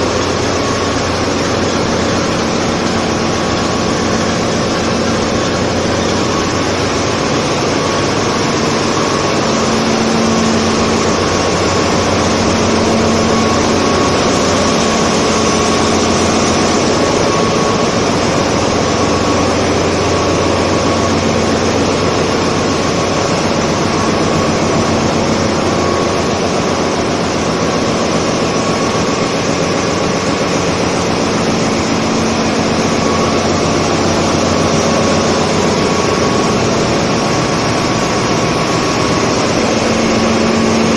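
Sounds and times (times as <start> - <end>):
engine room machinery din: 0.0 - 40.9.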